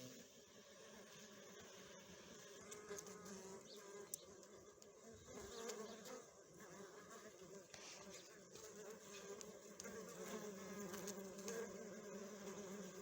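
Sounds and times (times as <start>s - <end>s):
honeybees humming: 0.0s - 13.0s
single bees buzzing: 0.0s - 13.0s.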